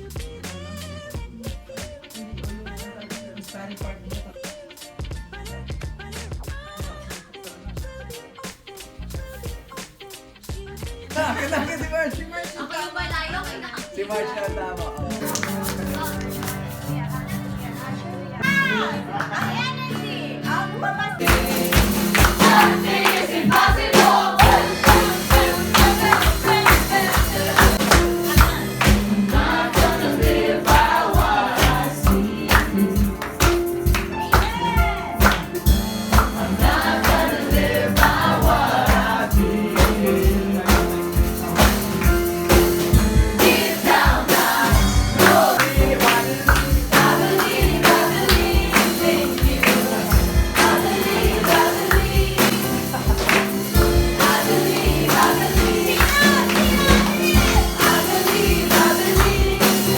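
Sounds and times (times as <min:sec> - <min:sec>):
band with steady beat: 0:00.0 - 0:18.8, 0:21.2 - 0:59.9
voices singing worship song: 0:06.3 - 0:17.0, 0:17.6 - 0:59.9.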